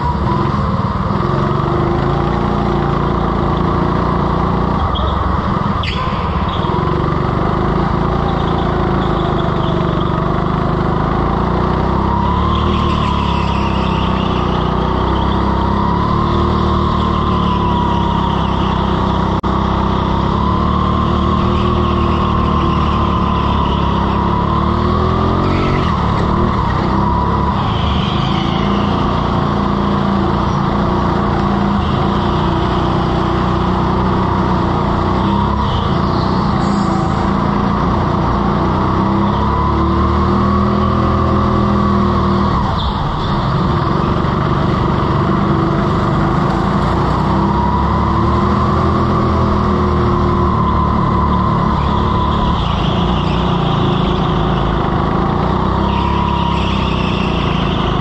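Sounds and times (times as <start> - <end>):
go-kart motor running: 0.0 - 58.0.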